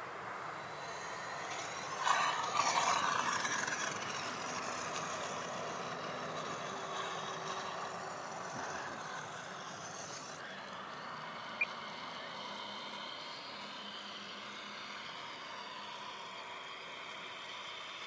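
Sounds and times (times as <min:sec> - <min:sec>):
model plane engine sound: 0:00.0 - 0:18.0.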